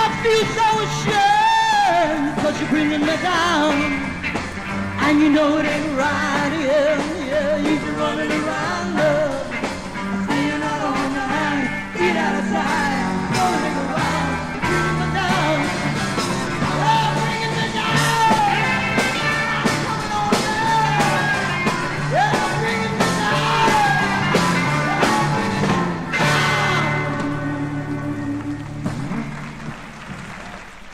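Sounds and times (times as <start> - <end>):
person singing: 0.0 - 4.2, 5.0 - 16.0, 16.6 - 28.8
rock band playing: 0.0 - 30.9.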